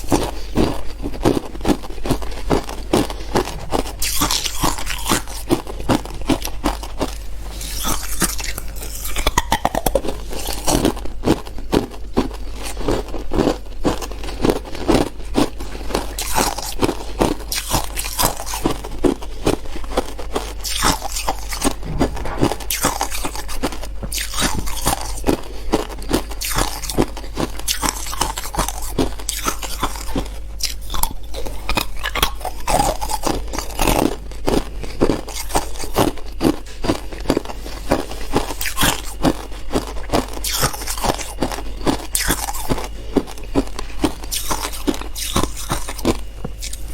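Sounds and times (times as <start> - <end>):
ice crunching while chewed: 0.0 - 46.9.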